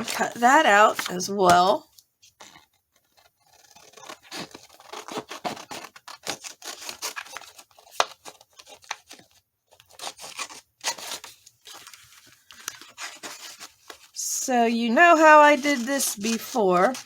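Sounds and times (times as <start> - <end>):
scissors cutting paper: 2.6 - 17.0.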